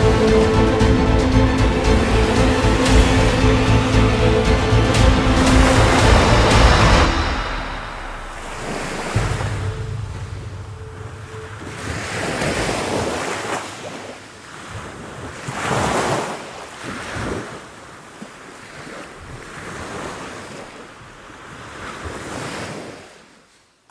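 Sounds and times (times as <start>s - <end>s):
sea waves washing over rocks: 0.0s - 23.3s.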